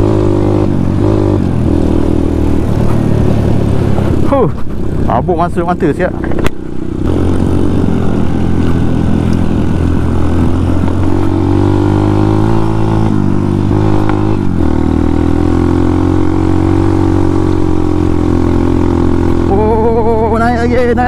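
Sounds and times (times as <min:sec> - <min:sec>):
motorcycle engine under load: 0:00.0 - 0:21.0.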